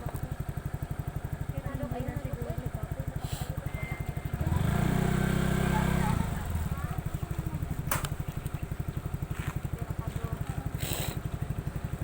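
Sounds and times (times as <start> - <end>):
scooter engine puttering: 0.0 - 12.0.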